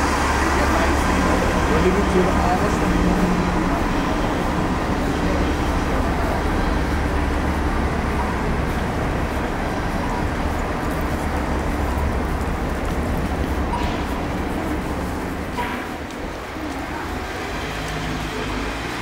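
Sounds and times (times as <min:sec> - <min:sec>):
city street traffic: 0:00.0 - 0:19.0
low vehicle engine rumble: 0:00.0 - 0:19.0.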